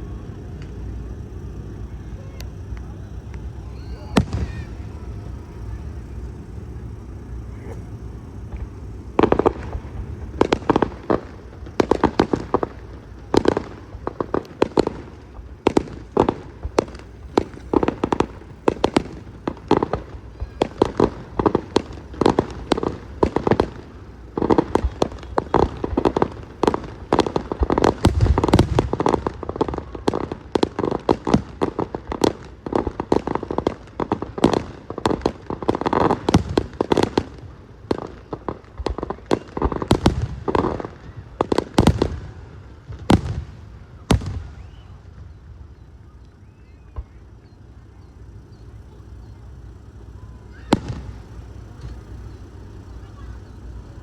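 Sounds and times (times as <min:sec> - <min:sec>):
heavy firework boom: 0:00.0 - 0:38.1, 0:38.7 - 0:45.6
fireworks bangs and crackles: 0:00.0 - 0:54.0.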